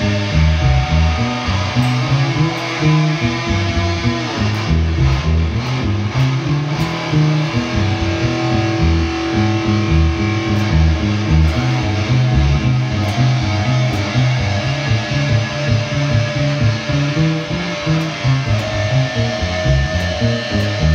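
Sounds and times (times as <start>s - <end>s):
bass line: 0.0s - 20.9s
guitar playing: 0.0s - 20.9s.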